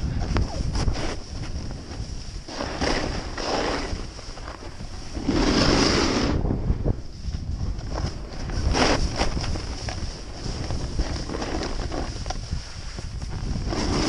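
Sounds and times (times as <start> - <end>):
snowboard carving through snow: 0.0 - 14.0
wind buffeting microphone: 0.0 - 14.0.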